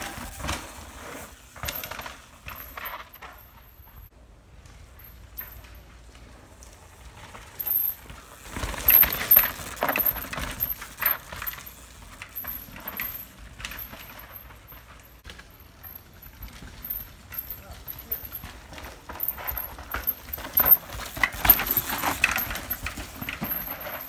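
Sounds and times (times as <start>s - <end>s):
bike tyres skidding over roots: 0.0s - 24.0s
bike chain and frame rattling: 1.4s - 24.0s.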